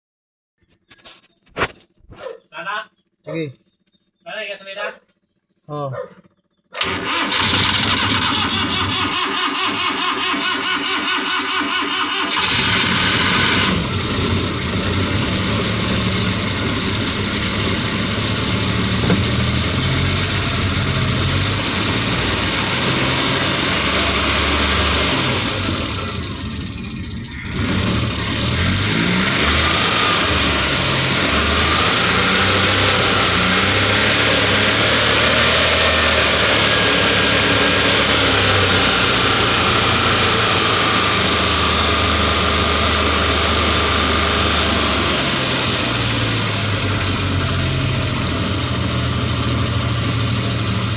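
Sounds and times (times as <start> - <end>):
engine running: 6.7 - 50.9
engine cranking on starter: 6.8 - 50.9.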